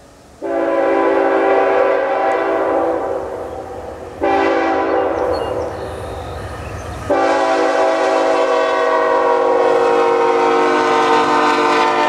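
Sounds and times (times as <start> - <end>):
locomotive air horn blasts: 0.4 - 6.2, 7.1 - 12.0.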